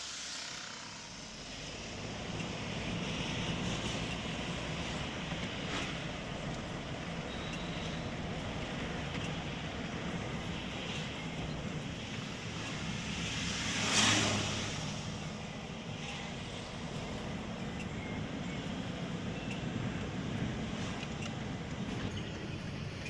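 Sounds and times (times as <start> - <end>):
motor vehicle road noise: 0.0 - 23.0.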